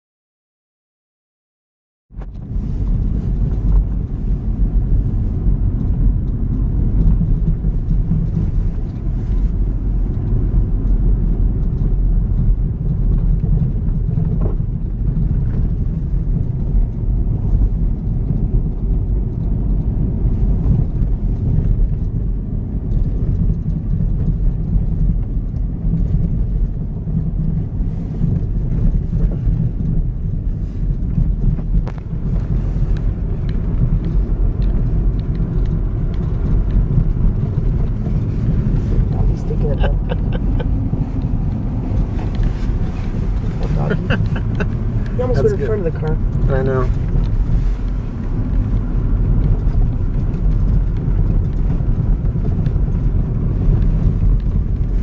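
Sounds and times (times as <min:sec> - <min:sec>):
car engine drone: 0:02.1 - 0:55.0
tyre noise on snowy road: 0:02.1 - 0:55.0.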